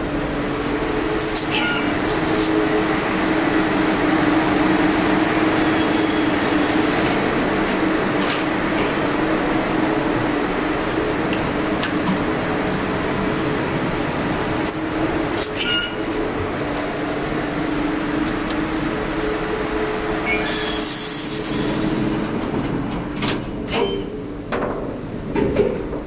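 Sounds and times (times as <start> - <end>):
elevator machinery hum: 0.0 - 26.0.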